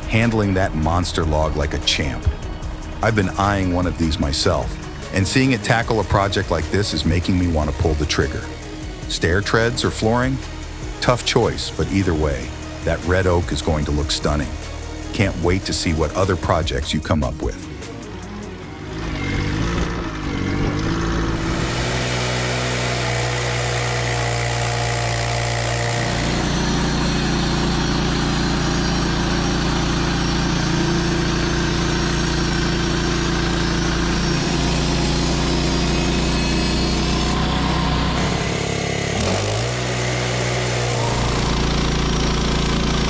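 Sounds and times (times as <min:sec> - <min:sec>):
engine-driven machine running: 0:00.0 - 0:43.0.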